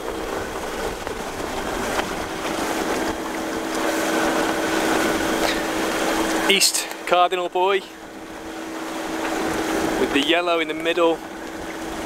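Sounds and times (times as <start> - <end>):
boat engine droning: 0.0 - 12.0
water splashing against hull: 0.0 - 12.0
wind buffeting microphone: 0.0 - 12.0.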